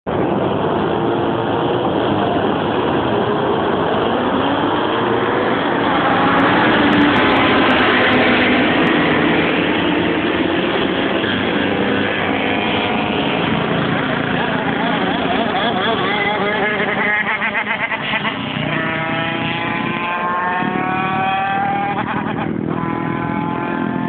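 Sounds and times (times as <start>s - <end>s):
racing motorcycles passing: 0.1s - 24.0s.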